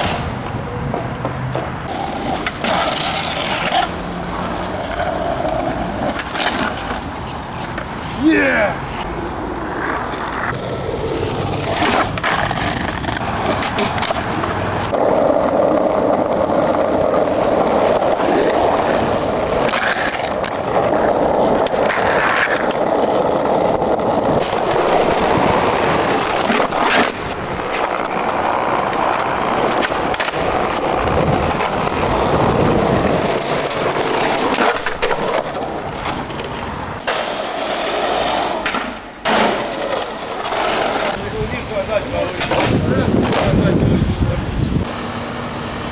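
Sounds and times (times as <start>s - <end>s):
skateboard clacking on ground: 0.0s - 44.3s
skateboard wheels rolling: 0.0s - 45.9s.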